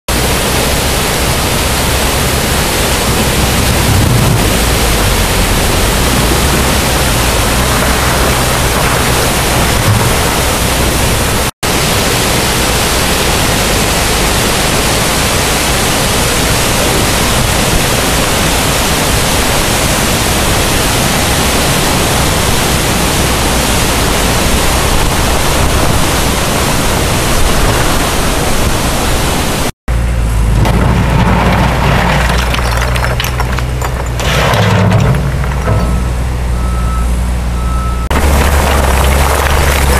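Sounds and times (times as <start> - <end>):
floodwater rushing: 0.1 - 36.7, 38.1 - 39.9.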